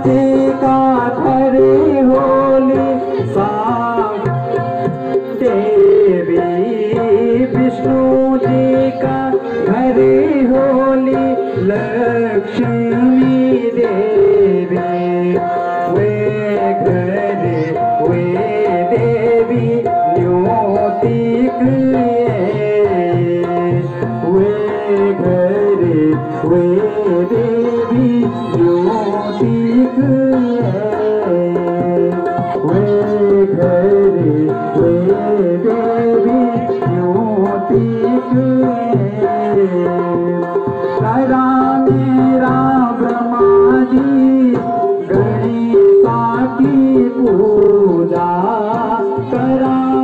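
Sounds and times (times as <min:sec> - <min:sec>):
harmonium: 0:00.0 - 0:50.0
person singing: 0:00.0 - 0:50.0
tabla: 0:00.0 - 0:50.0.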